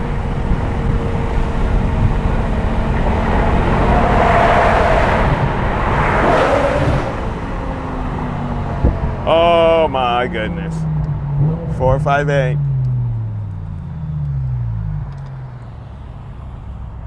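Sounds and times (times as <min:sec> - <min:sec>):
car engine accelerating: 0:00.0 - 0:17.0
road and wind noise: 0:00.0 - 0:17.0.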